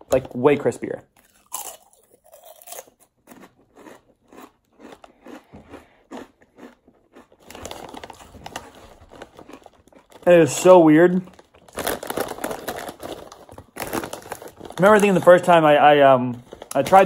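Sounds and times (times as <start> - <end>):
potato chip crunching: 1.2 - 17.0.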